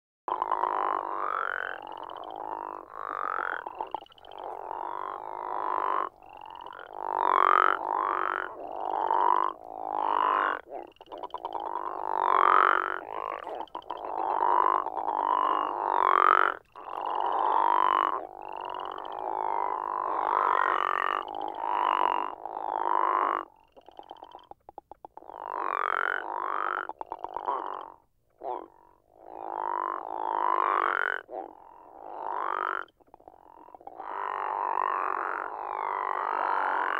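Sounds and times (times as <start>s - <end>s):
frogs giving snoring calls: 0.3s - 36.9s.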